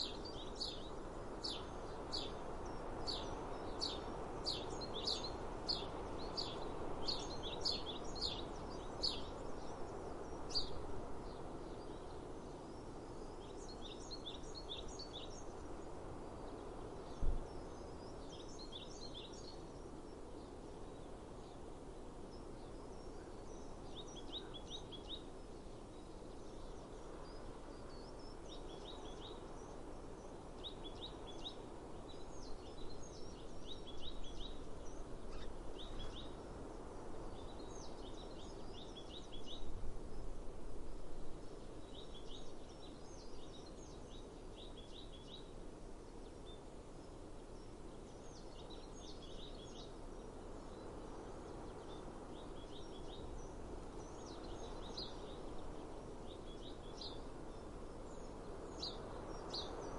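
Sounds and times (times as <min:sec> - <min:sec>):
small birds chirping: 0:00.0 - 0:40.4, 0:41.4 - 0:59.9
outdoor background hiss: 0:00.0 - 0:59.9.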